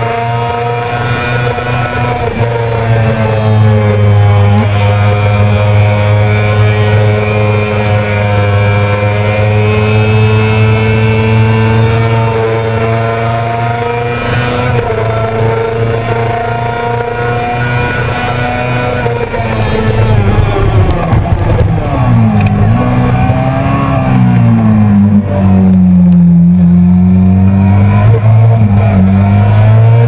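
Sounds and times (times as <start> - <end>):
motorcycle engine revving high: 0.0 - 30.0.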